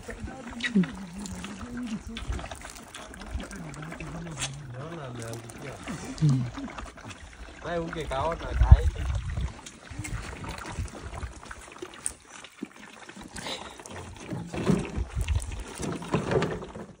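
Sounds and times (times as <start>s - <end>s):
elephants sucking and gulping milk: 0.0s - 17.0s.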